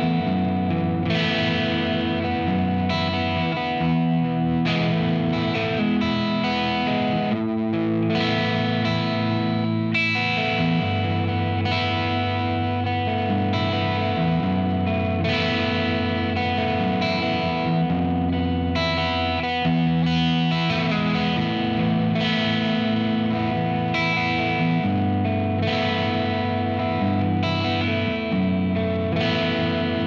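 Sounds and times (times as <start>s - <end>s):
distorted electric guitar chords: 0.0s - 30.0s.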